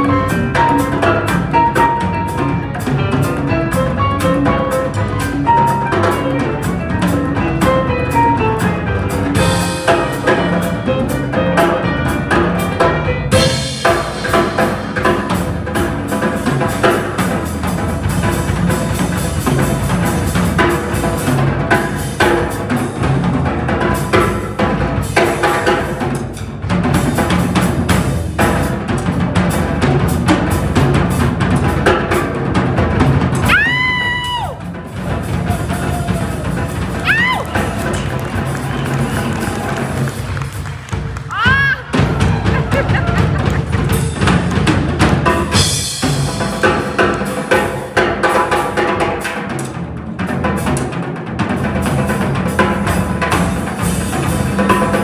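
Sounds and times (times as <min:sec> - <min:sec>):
congas: 0:00.0 - 0:55.0
drum kit playing: 0:00.0 - 0:55.0
piano: 0:00.0 - 0:55.0.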